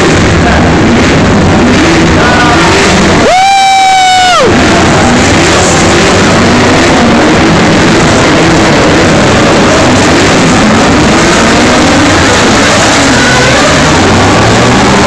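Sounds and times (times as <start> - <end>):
race cars driving past: 0.0 - 15.0.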